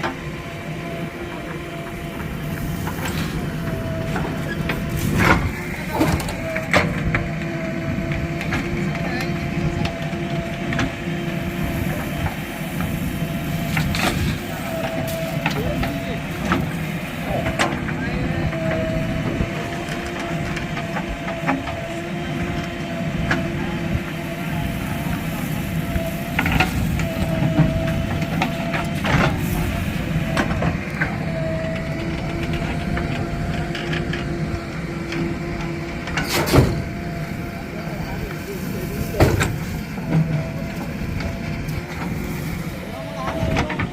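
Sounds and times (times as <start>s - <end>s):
diesel engine running: 0.0s - 43.9s
steady whine: 0.0s - 43.9s.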